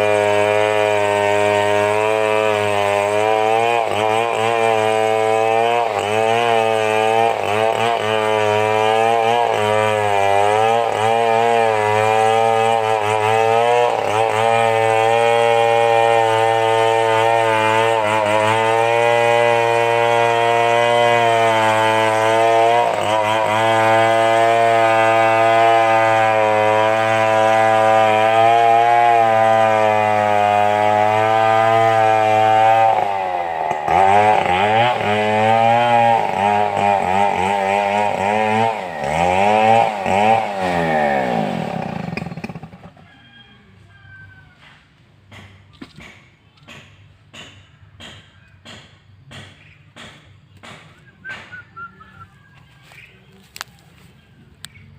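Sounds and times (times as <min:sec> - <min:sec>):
chainsaw cutting wood: 0:00.0 - 0:54.7.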